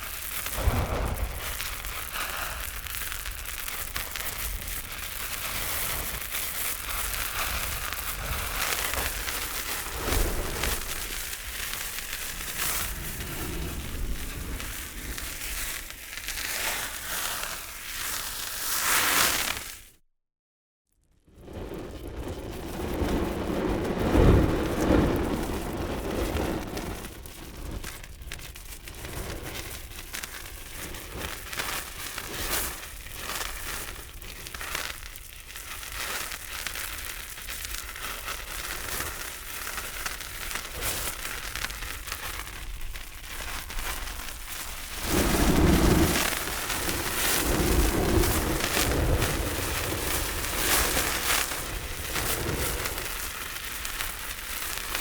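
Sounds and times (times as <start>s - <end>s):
fire crackling and popping: 0.0s - 19.9s, 21.2s - 55.0s
flames surging: 0.0s - 19.9s, 21.3s - 55.0s.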